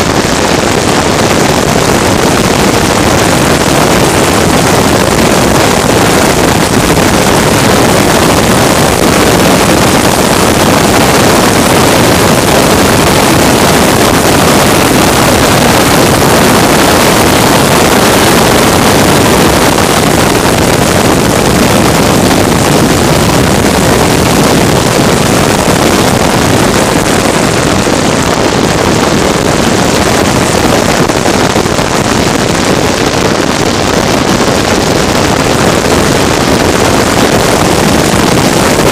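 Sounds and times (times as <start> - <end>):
wind on microphone: 0.0 - 38.9.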